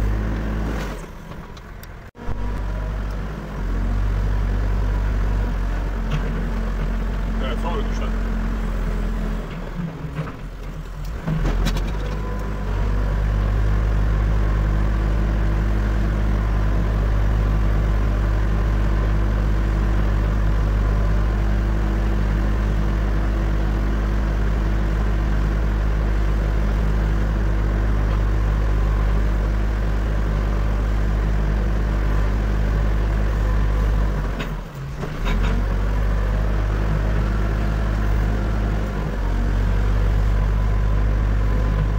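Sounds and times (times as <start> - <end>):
backhoe diesel engine droning: 0.0 - 41.9.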